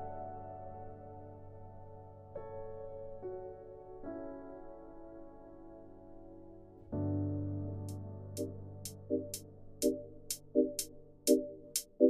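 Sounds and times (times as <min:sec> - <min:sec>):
soft keyboard music: 0:00.0 - 0:12.0.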